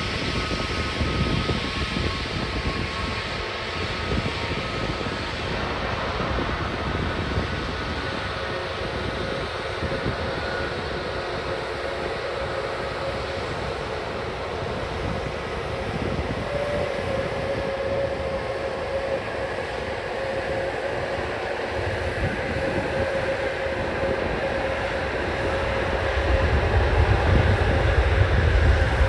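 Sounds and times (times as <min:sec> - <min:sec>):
jet engine rumble: 0:00.0 - 0:29.0
jet engine whine: 0:00.0 - 0:29.0.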